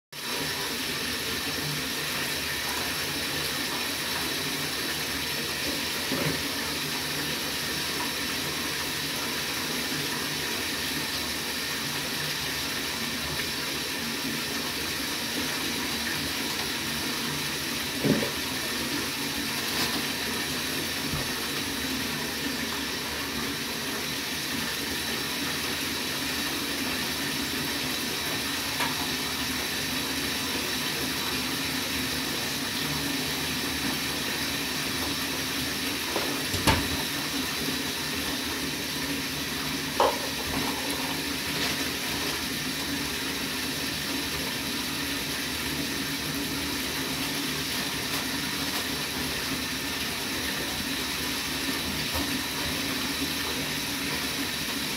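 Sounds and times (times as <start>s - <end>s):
running water rushing: 0.2s - 54.9s.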